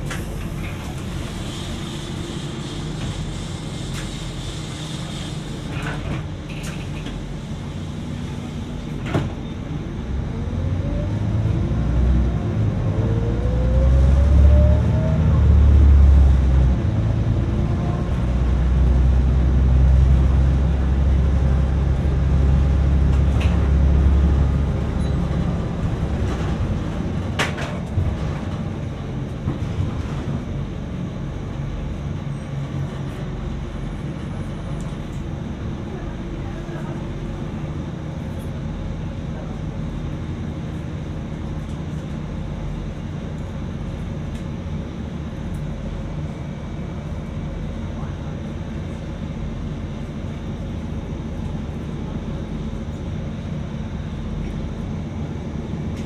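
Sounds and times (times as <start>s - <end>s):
bus engine rumble: 0.0s - 56.0s
engine whine: 0.0s - 56.0s.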